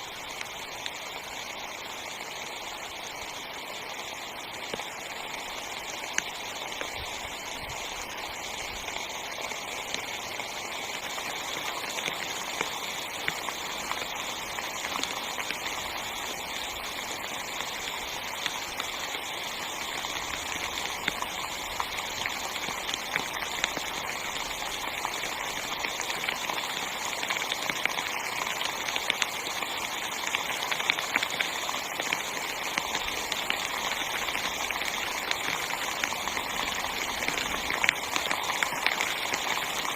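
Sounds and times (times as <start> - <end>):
heavy rain on tent fabric: 0.0 - 39.9.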